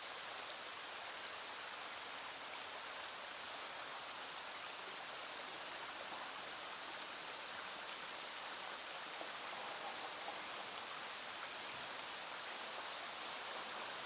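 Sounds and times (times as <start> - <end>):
rain falling: 0.0 - 14.0
small stream flowing: 0.0 - 14.0.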